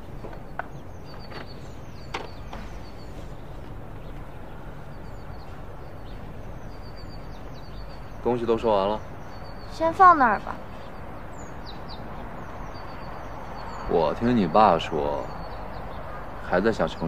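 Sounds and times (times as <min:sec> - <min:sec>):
faint bird chirps: 0:00.0 - 0:17.0
outdoor background noise: 0:00.0 - 0:17.0.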